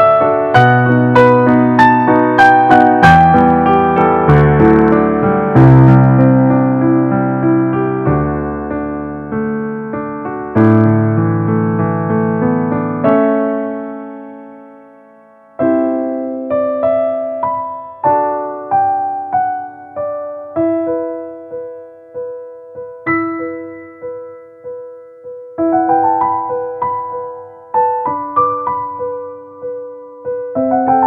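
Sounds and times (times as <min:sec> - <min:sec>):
solo piano music: 0:00.0 - 0:31.0.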